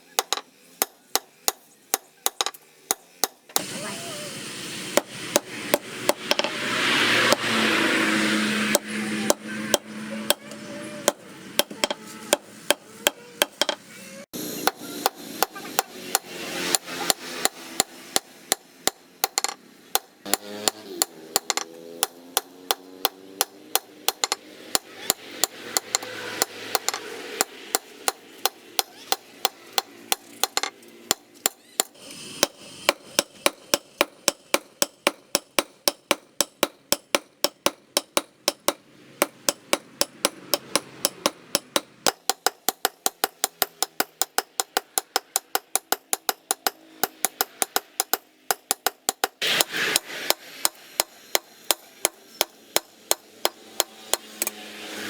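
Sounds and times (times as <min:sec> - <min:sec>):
hammer striking steel on anvil: 0:00.1 - 0:03.8, 0:04.9 - 0:13.8, 0:14.6 - 0:54.7.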